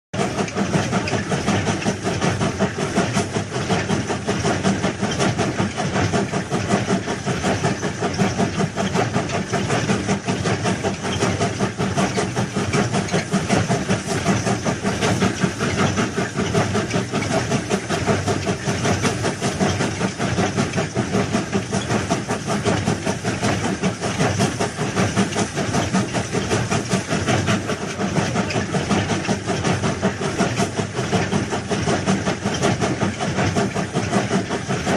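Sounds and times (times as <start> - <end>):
rail vehicle running: 0.2 - 34.9.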